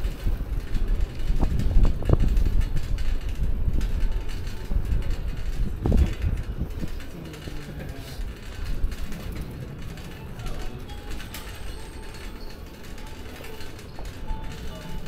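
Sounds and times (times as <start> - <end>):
bicycle basket rattling: 0.0 - 15.0.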